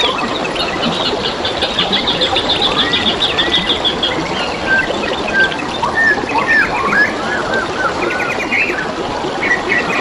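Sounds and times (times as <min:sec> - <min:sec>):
birds singing: 0:00.0 - 0:10.0
water babbling: 0:00.0 - 0:10.0.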